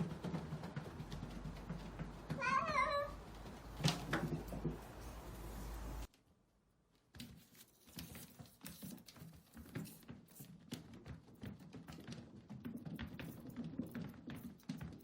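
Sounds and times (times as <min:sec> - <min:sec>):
cat paws pattering on wheel: 0:00.0 - 0:05.2, 0:07.2 - 0:15.0.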